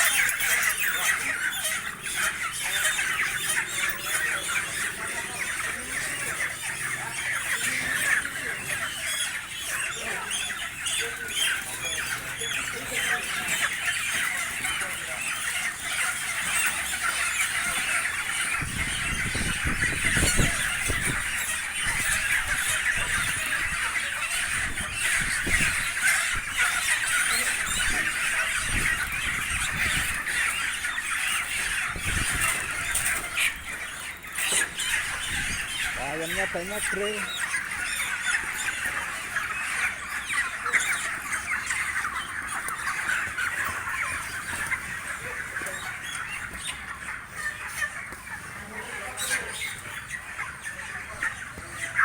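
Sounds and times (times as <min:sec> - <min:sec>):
chickens squawking and screeching: 0:00.0 - 0:52.0.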